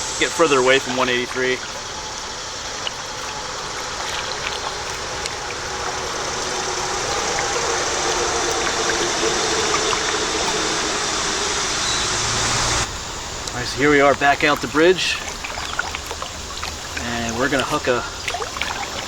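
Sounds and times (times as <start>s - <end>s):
faint passing engine hum: 0.0s - 19.0s
highway traffic noise: 0.0s - 19.0s
tyres hissing on road: 0.0s - 19.0s.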